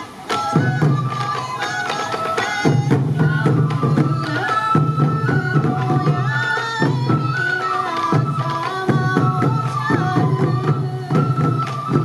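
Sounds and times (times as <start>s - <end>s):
bamboo flute melody: 0.0s - 12.0s
taiko drums beaten: 0.0s - 12.0s.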